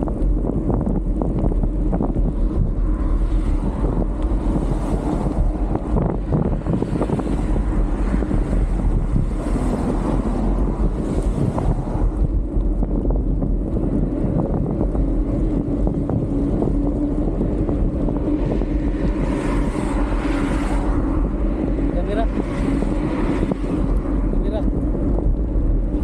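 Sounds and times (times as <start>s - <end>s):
tyres rumbling on asphalt: 0.0s - 26.0s
wind buffeting microphone: 0.0s - 26.0s.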